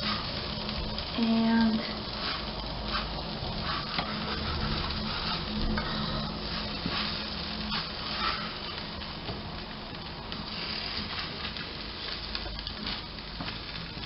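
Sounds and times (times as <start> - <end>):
wooden spatula scraping and tapping: 0.0 - 9.4, 10.4 - 14.0
cookies sizzling in a pan: 0.0 - 14.0.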